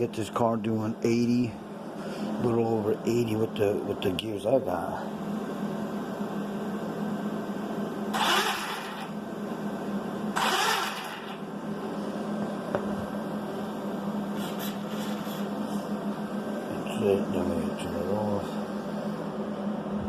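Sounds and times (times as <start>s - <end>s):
electric fan whirring: 0.0s - 20.0s.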